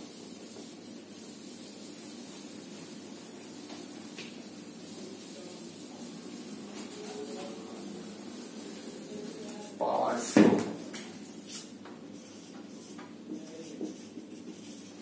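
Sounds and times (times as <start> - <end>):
duster rubbing on whiteboard: 0.0 - 15.0.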